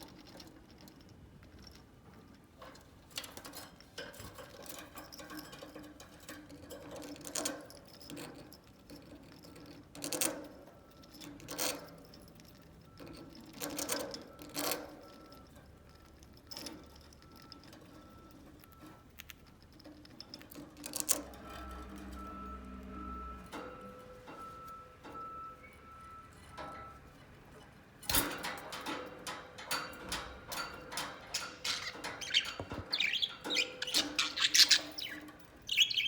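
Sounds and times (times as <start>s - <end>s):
bird pecking and scraping in cage: 0.0s - 36.0s.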